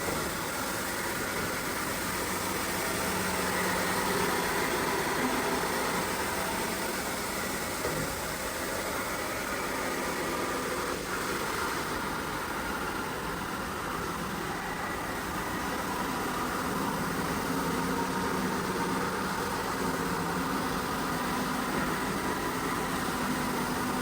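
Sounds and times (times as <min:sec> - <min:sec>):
machine running steadily: 0:00.0 - 0:24.0.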